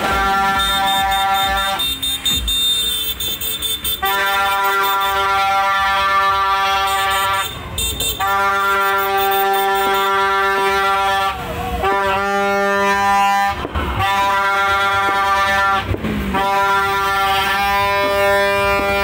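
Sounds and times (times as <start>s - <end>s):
horn blasts: 0.0s - 19.0s.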